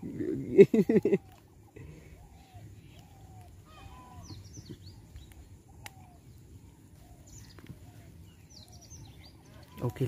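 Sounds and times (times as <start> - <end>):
low steady background rumble: 0.0 - 10.0
lower arched bird call notes: 0.9 - 10.0.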